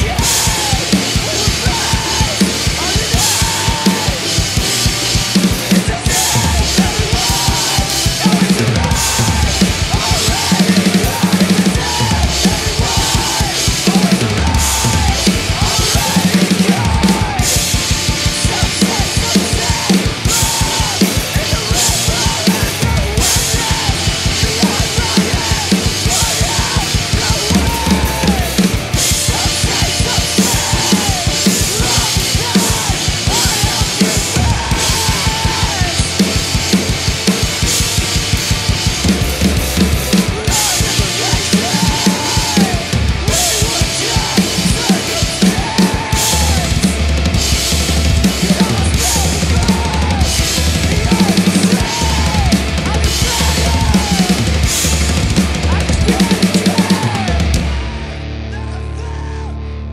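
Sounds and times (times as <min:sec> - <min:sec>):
drum kit played fast: 0:00.0 - 0:59.2
recorded rock band track: 0:00.0 - 0:59.9.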